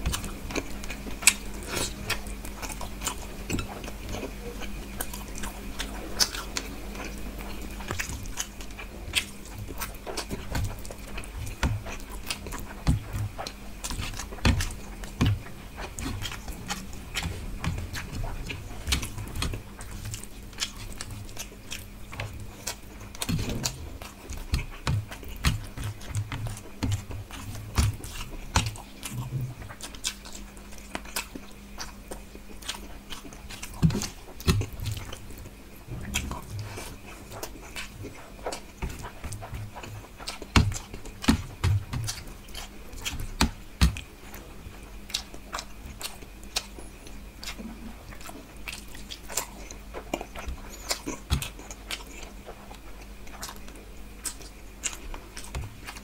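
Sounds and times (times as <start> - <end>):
person chewing with mouth clicks: 0.0 - 56.0.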